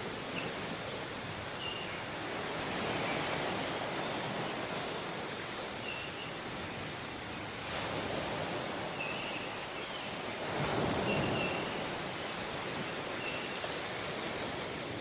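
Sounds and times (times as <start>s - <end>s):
surf washing onto beach: 0.0s - 15.0s.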